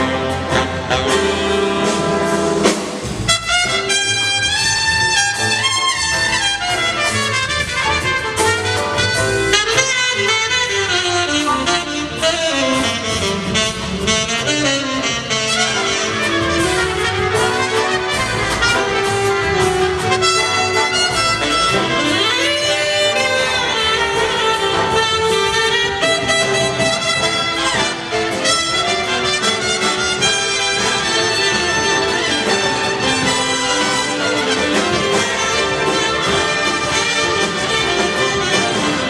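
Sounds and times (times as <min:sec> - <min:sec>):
big band jazz: 0:00.0 - 0:39.0
drum kit: 0:00.0 - 0:39.0
horn sections playing: 0:00.0 - 0:39.0.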